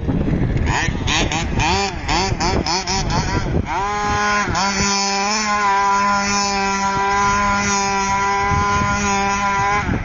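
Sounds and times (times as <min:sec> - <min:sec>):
small engine buzzing at high speed: 0:00.0 - 0:10.0.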